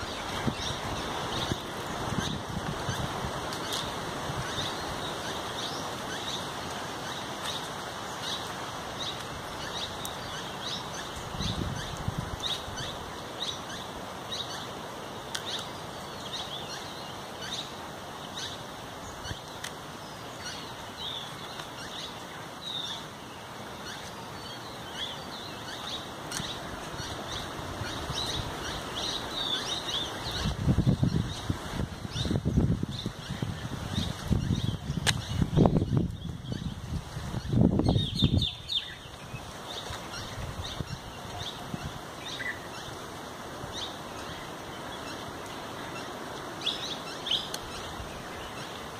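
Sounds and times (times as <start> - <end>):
small birds chirping: 0.0 - 48.9
steady wind-like hiss: 0.0 - 48.9.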